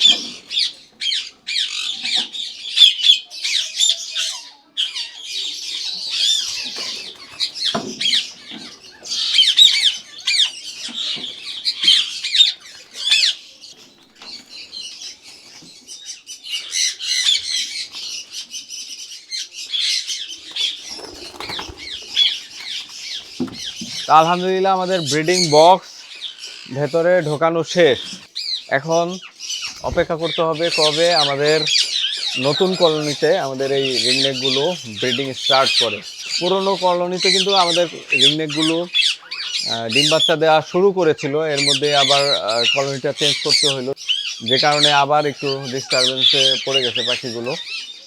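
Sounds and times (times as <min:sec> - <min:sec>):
parakeets screeching and squawking: 0:00.0 - 0:48.0.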